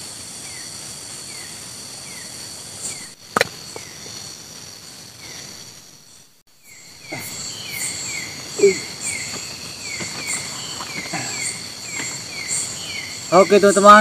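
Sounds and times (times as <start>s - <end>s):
insect buzz: 0.0s - 14.0s.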